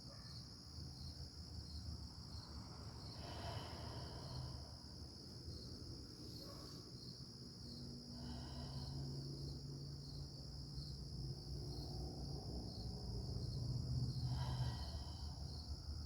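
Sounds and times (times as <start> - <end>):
crickets trilling: 0.8 - 16.0.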